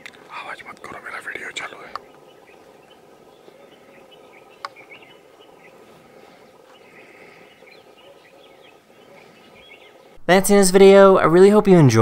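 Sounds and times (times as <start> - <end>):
faint insect drone: 0.0 - 10.2
bird chirps: 0.4 - 10.2.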